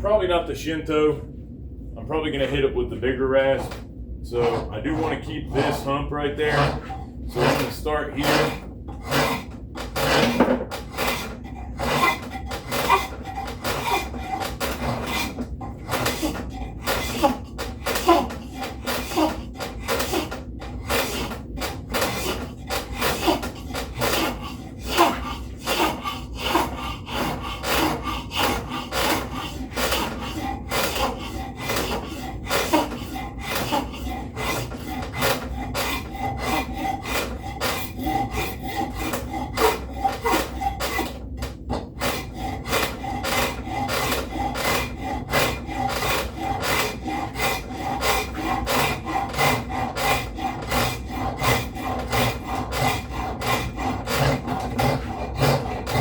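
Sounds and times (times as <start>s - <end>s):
wood rasp scraping: 3.1s - 56.0s.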